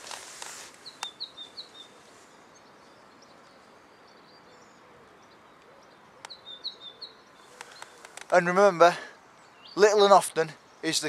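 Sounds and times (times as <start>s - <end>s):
outdoor background noise: 0.0s - 11.0s
songbird chirping: 0.0s - 11.0s.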